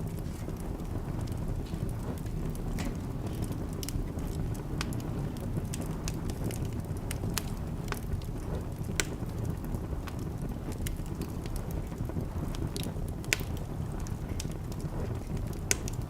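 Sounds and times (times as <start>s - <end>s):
fire low rumble: 0.0s - 16.0s
wood fire pops and snaps: 0.0s - 16.0s.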